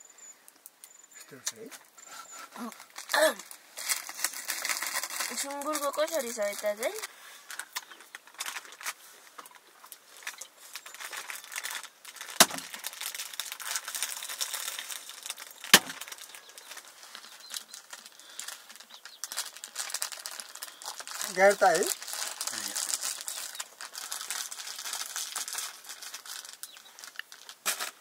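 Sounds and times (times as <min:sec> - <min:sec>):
faint crackling and rustling: 0:00.0 - 0:28.0.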